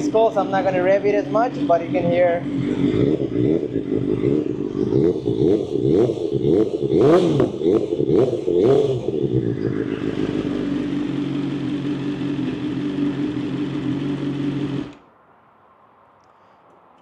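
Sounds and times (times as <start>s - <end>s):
motorcycle engine throttle blips: 0.0s - 15.1s.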